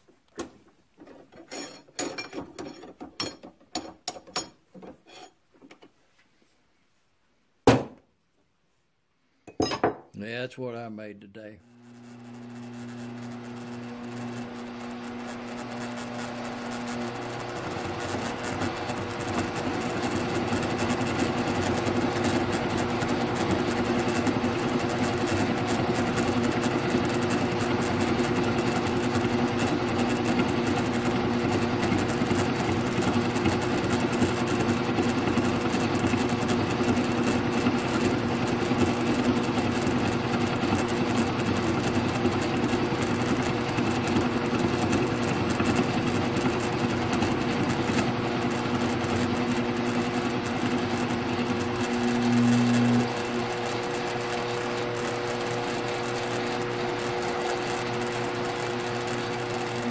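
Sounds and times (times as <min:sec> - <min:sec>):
milling machine hum: 0:11.6 - 0:59.9.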